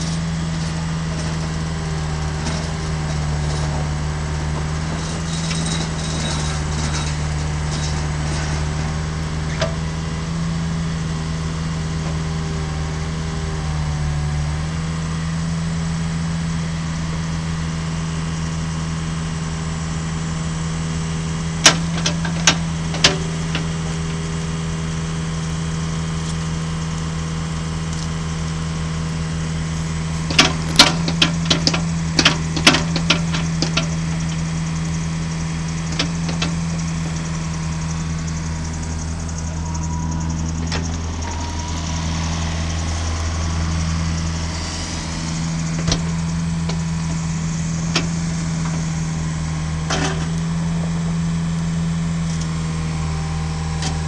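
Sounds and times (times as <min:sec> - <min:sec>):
mini excavator engine running: 0:00.0 - 0:54.0.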